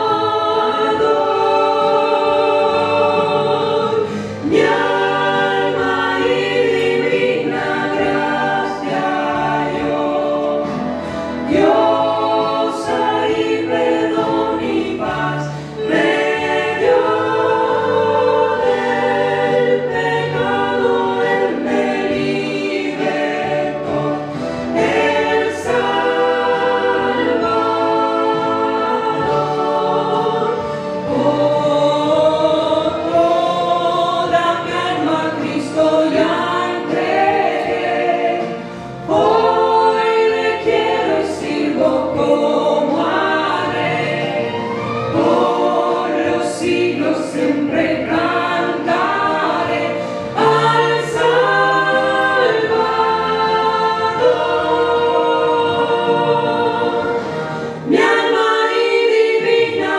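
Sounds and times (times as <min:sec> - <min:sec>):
family singing a hymn in harmony: 0:00.0 - 0:59.9.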